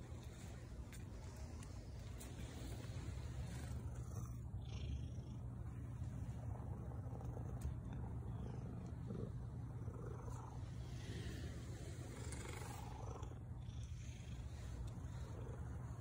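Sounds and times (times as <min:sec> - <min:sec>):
cat purring: 0:01.2 - 0:16.0.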